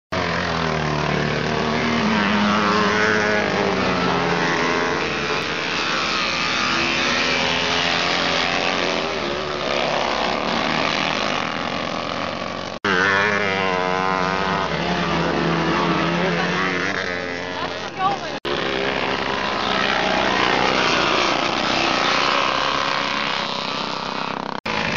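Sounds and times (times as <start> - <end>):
motorcycle engines revving: 0.1 - 24.9.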